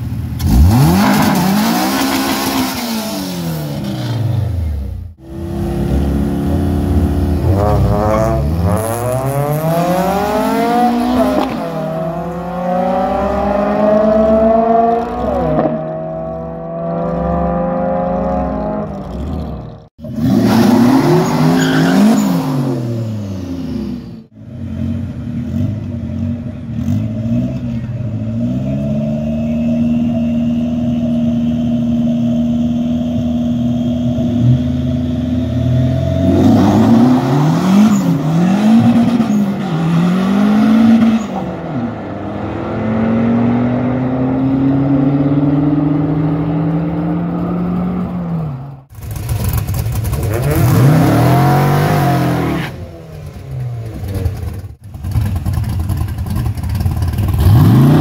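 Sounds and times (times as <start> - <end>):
race car engine revving: 0.4 - 55.7.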